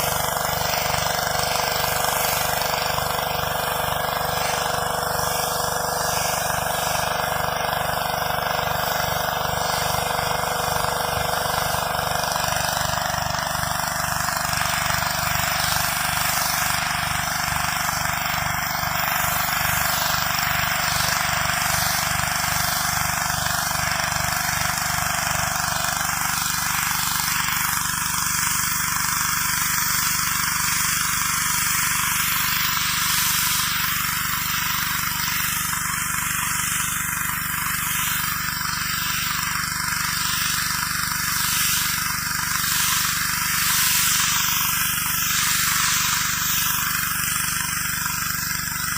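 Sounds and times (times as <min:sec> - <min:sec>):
pressure washer engine running: 0:00.0 - 0:48.9
water spray hissing on concrete: 0:00.0 - 0:48.9.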